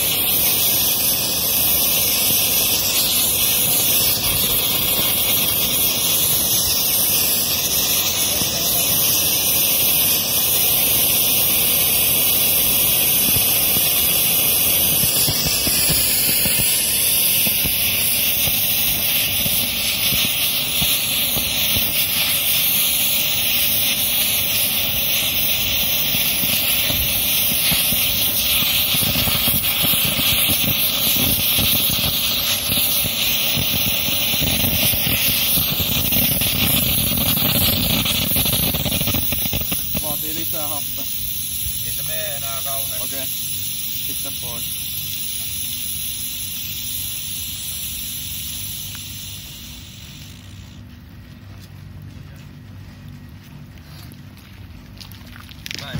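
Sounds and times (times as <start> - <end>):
rocket motor hissing rush: 0.0 - 51.0, 55.5 - 55.9.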